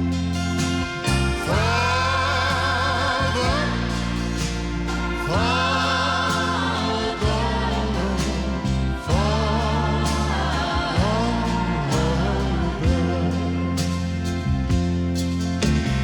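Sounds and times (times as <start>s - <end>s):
voices holding long notes: 0.0s - 14.7s
steady bass line: 0.0s - 16.0s.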